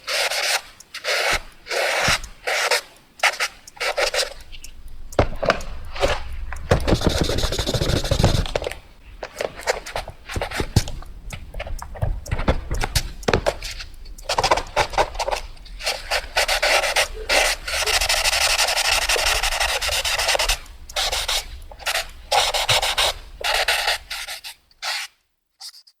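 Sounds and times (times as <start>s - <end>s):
drawing tool scratching on surface: 0.0s - 10.9s, 12.2s - 25.1s.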